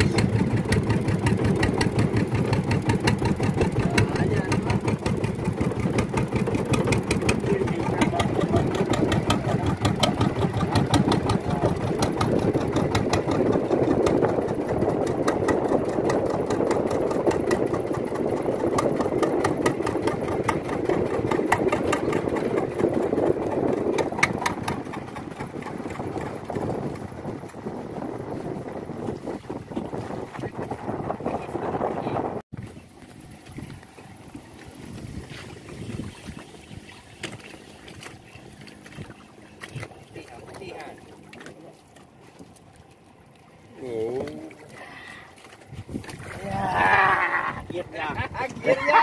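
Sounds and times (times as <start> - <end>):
boat engine chugging: 0.0 - 49.0.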